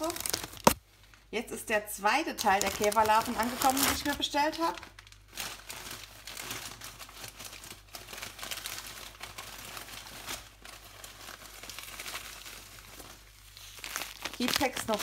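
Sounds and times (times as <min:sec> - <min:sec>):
newspaper rustling and crinkling: 0:00.0 - 0:01.2, 0:02.4 - 0:15.0.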